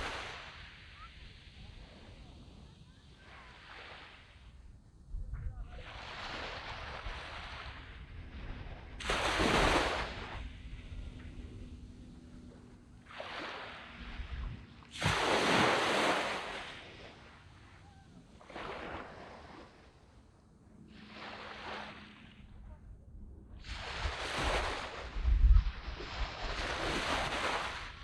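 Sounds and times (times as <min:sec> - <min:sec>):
small waves breaking on beach: 0:00.0 - 0:04.8, 0:05.6 - 0:22.9, 0:23.6 - 0:28.0.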